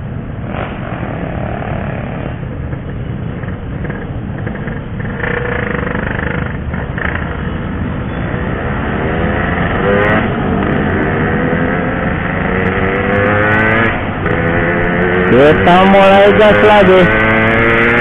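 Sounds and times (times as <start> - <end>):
wind and road noise: 0.0 - 18.0
motorcycle engine under throttle: 0.5 - 7.6, 8.4 - 18.0.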